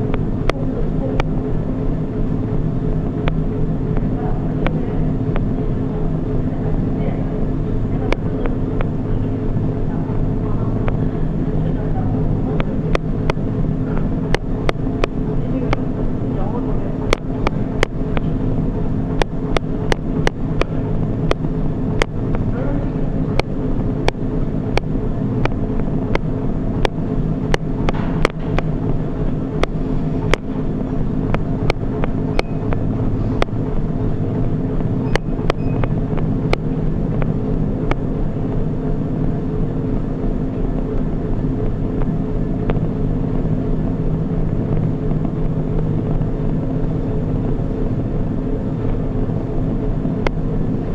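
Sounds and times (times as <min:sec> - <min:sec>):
treadmill motor and belt hum: 0:00.0 - 0:50.9.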